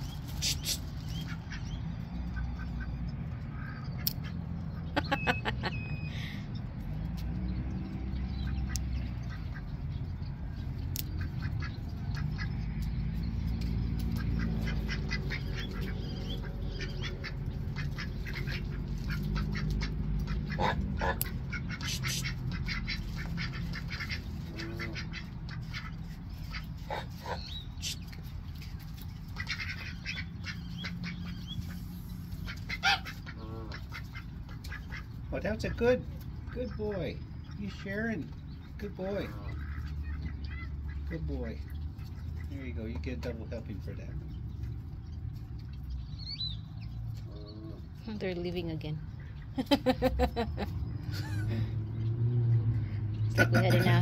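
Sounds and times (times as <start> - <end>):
ducks quacking: 0.1 - 6.4, 8.1 - 44.3, 52.4 - 54.0.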